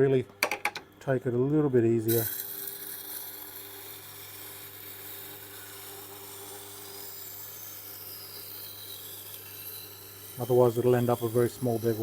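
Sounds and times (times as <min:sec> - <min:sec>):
grinder motor hum: 0:00.0 - 0:12.0
steel scraping on grindstone: 0:02.2 - 0:12.0.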